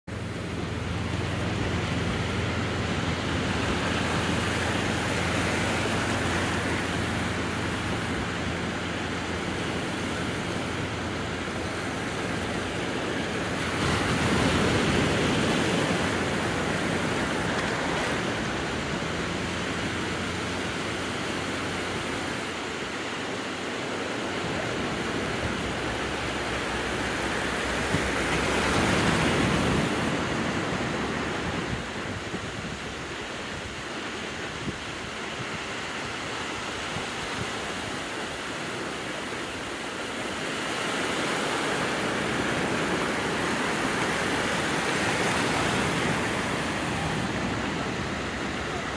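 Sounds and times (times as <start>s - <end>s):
waves breaking on beach: 0.0s - 48.9s.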